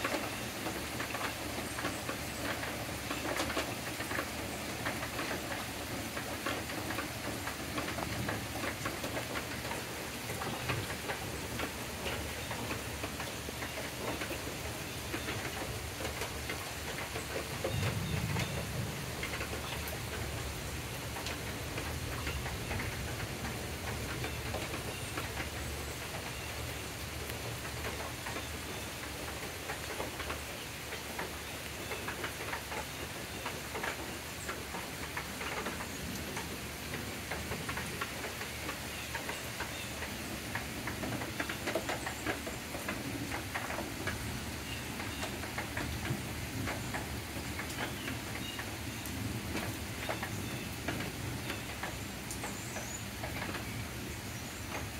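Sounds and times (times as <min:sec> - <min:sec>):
rain on leaves and wooden deck: 0:00.0 - 0:54.9.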